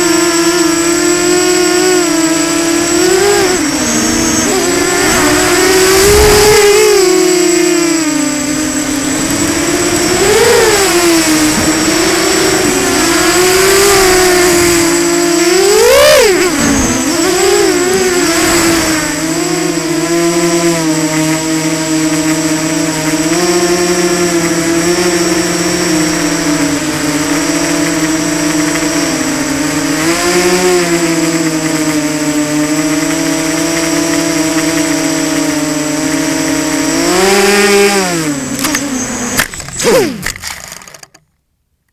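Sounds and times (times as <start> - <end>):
model aircraft motor buzzing: 0.0 - 41.2.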